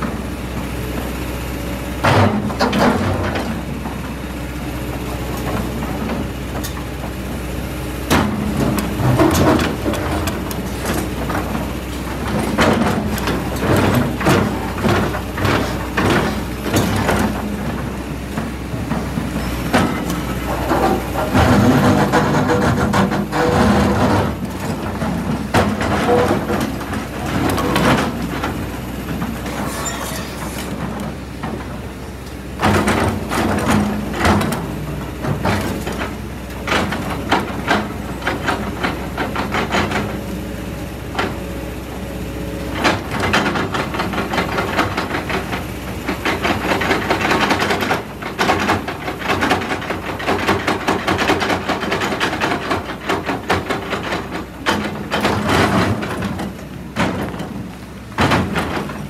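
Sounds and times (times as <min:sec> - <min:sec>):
excavator engine and hydraulics: 0:00.0 - 0:59.0.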